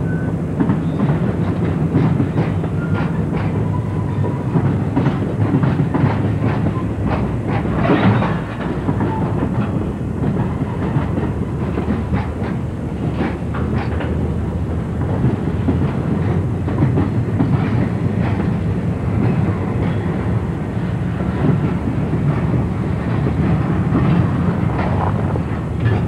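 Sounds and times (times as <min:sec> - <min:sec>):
wheels clacking over rail joints: 0:00.5 - 0:26.0.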